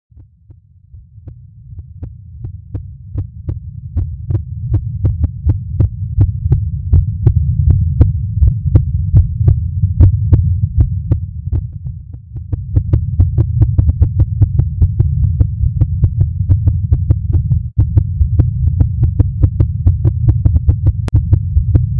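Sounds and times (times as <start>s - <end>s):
low rumbling hum: 0.1s - 21.9s
rapid heartbeat pulses: 0.1s - 21.9s.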